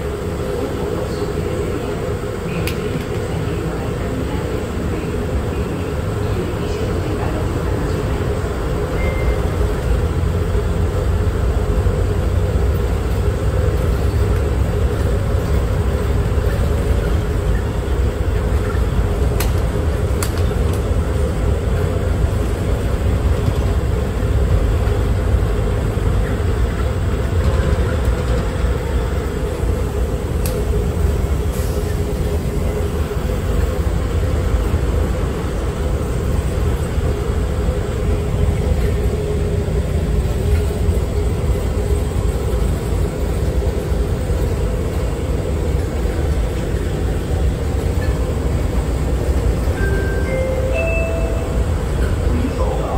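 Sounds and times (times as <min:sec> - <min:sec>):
low rumble of train: 0:00.0 - 0:52.9.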